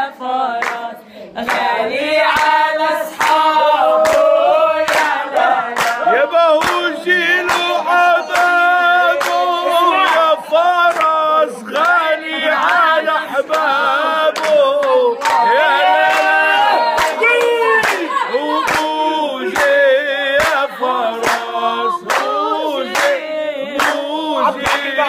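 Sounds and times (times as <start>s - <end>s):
man and woman singing: 0.0s - 25.0s
hand claps: 0.6s - 1.7s, 2.3s - 12.8s, 13.4s - 13.8s, 14.4s - 25.0s.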